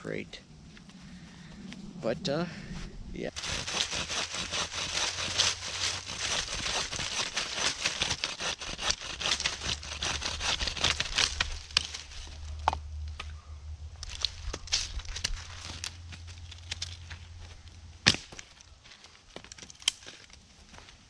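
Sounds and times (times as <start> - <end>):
twigs crackling and snapping: 3.3 - 20.9.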